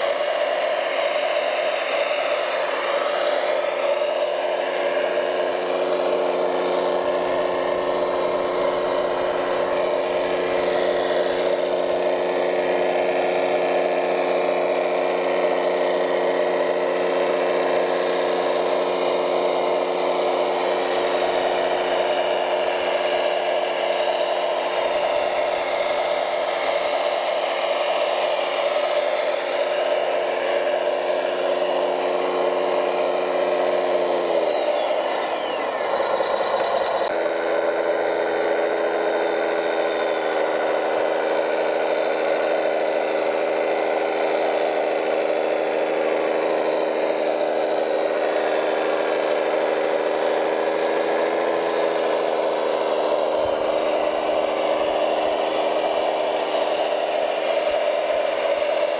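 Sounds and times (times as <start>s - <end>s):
high whir: 0.0s - 58.9s
motorised whine: 0.0s - 58.9s.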